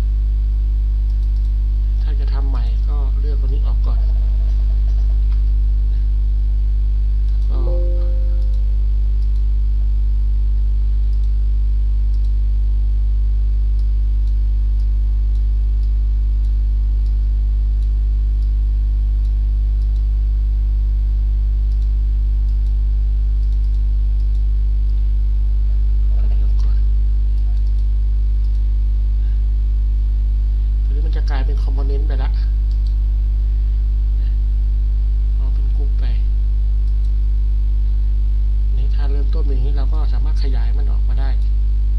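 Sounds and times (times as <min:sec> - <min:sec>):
low electrical mains hum: 0:00.0 - 0:41.9.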